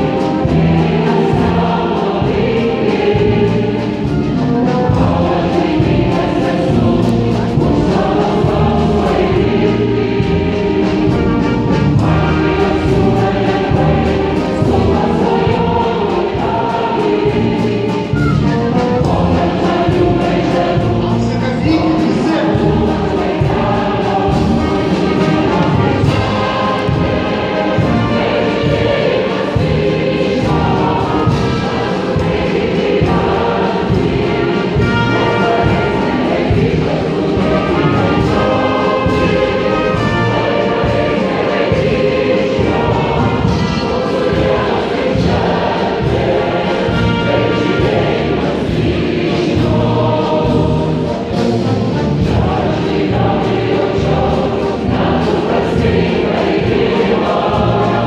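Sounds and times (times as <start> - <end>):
massed choir singing: 0.0 - 58.0
orchestra accompanying: 0.0 - 58.0.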